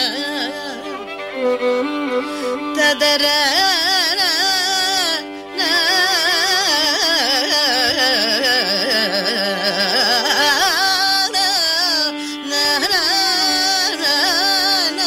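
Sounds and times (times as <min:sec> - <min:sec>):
violin melody: 0:00.0 - 0:15.0
woman singing: 0:00.0 - 0:15.0.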